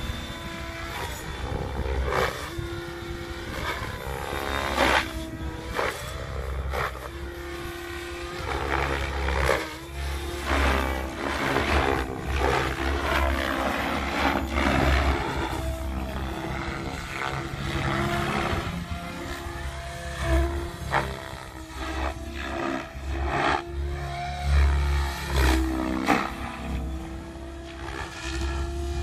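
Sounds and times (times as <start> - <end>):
helicopter rotor blades whooshing: 0.0 - 29.0
motor whine: 0.0 - 29.0.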